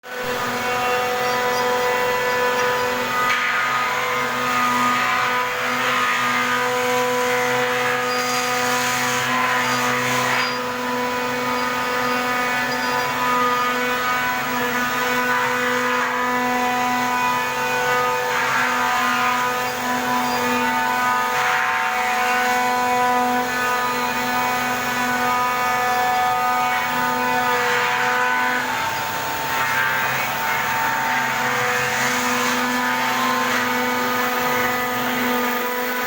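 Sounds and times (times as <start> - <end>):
rough cutting noise: 0.0 - 36.0
router spindle whine: 0.0 - 36.0.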